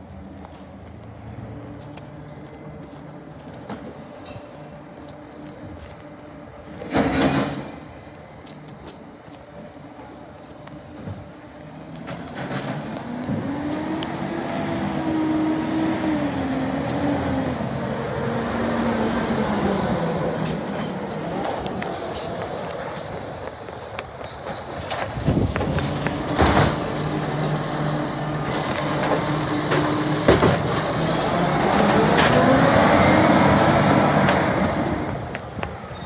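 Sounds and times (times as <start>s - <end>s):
garbage truck diesel engine: 0.0s - 36.0s.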